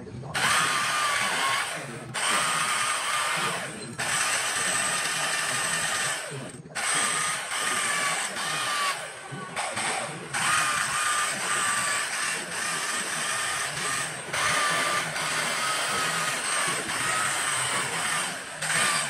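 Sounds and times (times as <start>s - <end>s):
high tool whine: 0.0s - 19.0s
power carving tool grinding wood: 0.4s - 19.0s.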